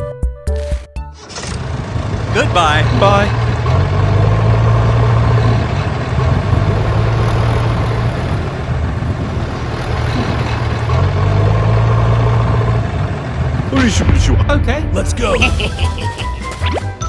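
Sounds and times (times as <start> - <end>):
tractor engine running: 1.1 - 16.6.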